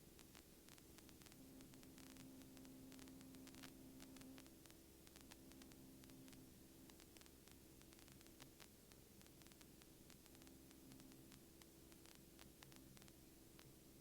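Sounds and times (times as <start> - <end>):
faint steady hum: 0.0 - 14.0
static clicks: 0.2 - 14.0.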